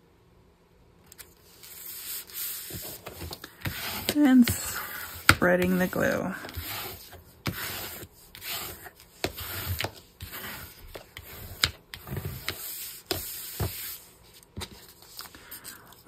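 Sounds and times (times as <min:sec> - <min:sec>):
spreading tool scraping paper: 0:01.4 - 0:15.8.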